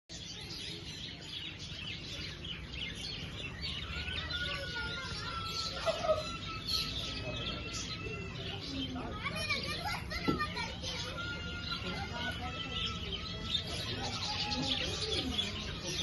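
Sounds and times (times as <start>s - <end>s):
birds chirping: 0.1s - 16.0s.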